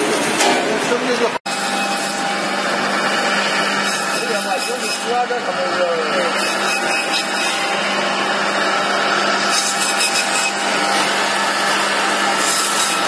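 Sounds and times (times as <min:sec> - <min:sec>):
electric bone saw whirring: 0:01.5 - 0:13.0.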